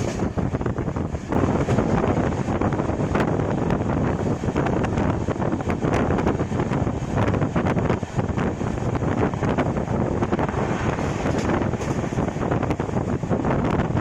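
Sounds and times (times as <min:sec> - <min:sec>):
train wheels rumbling on track: 0:00.0 - 0:14.0
wind buffeting microphone: 0:00.0 - 0:14.0.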